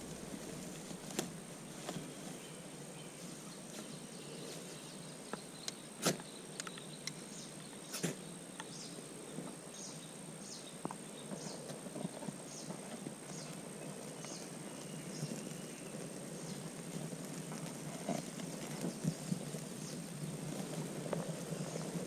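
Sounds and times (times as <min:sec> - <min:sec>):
steady forest hiss: 0:00.0 - 0:22.0.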